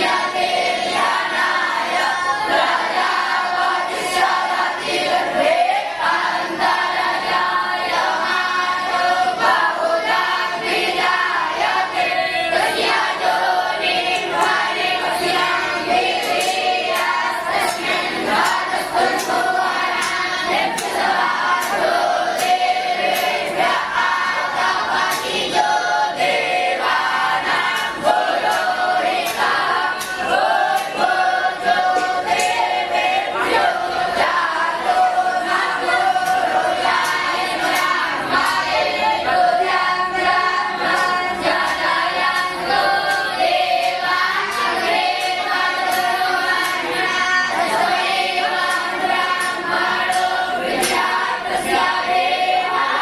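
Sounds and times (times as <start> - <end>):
group singing in unison: 0.0 - 53.0.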